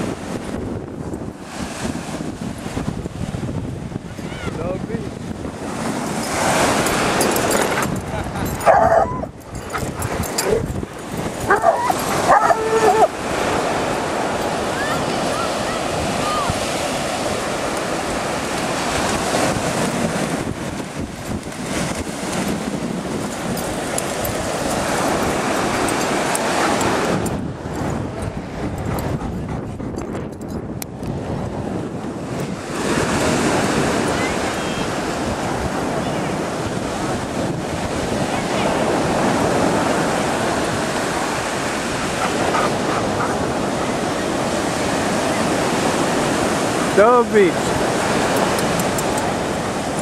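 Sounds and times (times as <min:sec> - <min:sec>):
ocean surf breaking: 0:00.0 - 0:29.6, 0:31.0 - 0:50.0.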